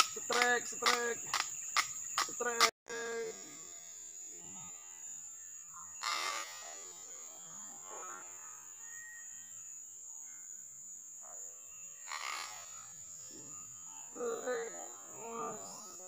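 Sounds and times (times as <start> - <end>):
high-pitched buzz: 0.0 - 10.9, 11.5 - 16.0.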